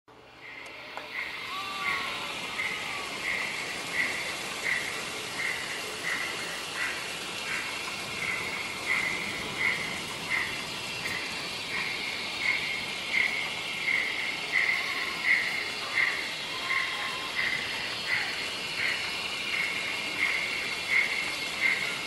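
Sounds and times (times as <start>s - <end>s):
model steam locomotive chuffing: 0.1s - 22.0s
steady hiss: 0.1s - 22.0s.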